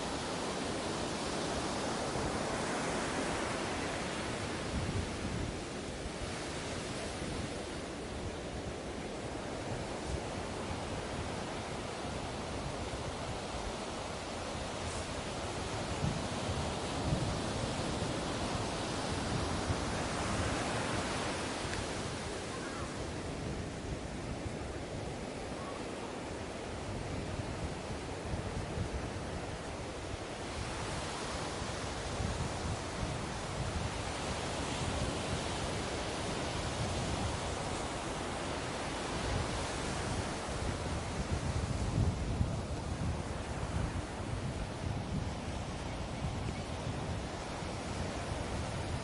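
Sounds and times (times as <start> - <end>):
waves breaking on beach: 0.0 - 49.0
wind buffeting microphone: 1.8 - 49.0.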